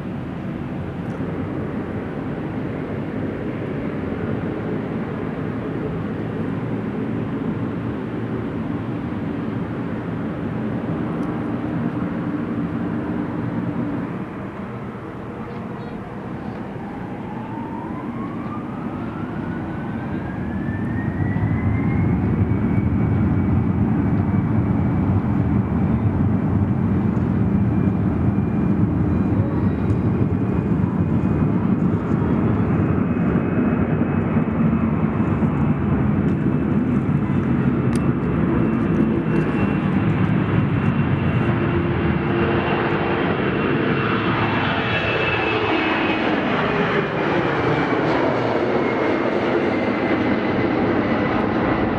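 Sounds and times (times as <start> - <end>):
airliner engines whining and roaring: 0.0 - 51.9.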